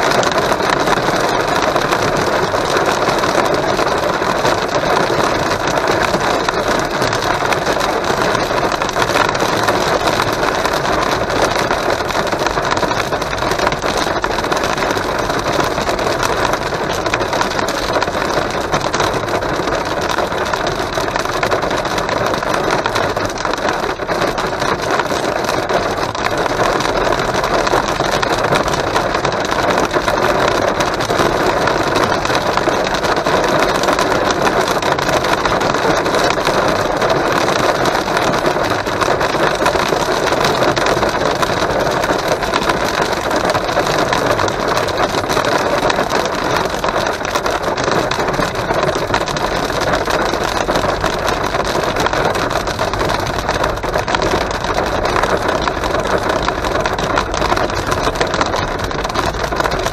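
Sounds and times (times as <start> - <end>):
rain and hail drumming on car roof: 0.0 - 59.9.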